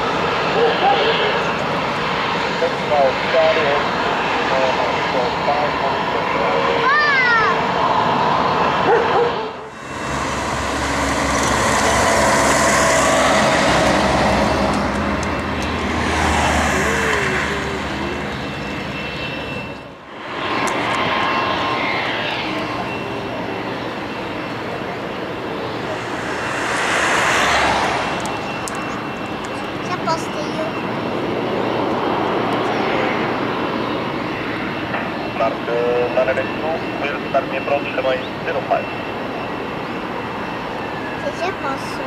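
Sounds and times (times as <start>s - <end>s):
airliner engines roaring: 0.0s - 42.0s.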